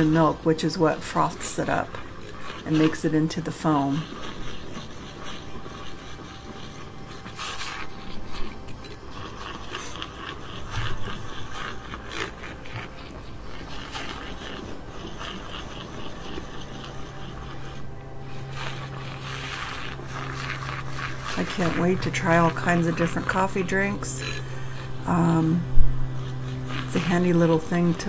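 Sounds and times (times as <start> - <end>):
electric milk frother whirring: 0.0 - 28.0.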